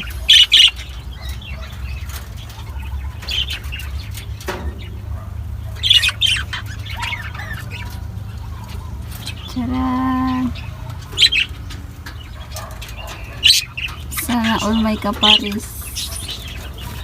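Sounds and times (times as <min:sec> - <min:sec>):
lovebirds squawking: 0:00.0 - 0:17.0.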